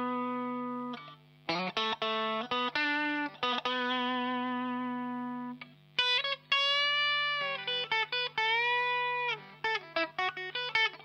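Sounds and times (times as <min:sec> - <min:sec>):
electric guitar lead line: 0:00.0 - 0:11.0.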